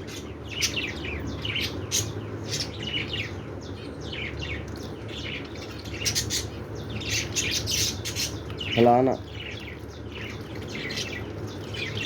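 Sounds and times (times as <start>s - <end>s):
caged birds chirping: 0.0s - 12.0s
steady low hum: 0.0s - 12.0s.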